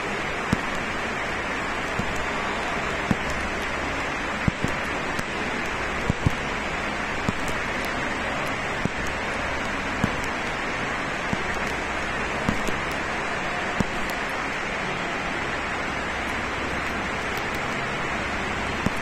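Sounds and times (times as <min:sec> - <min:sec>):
station ambient rushing hiss: 0:00.0 - 0:19.0.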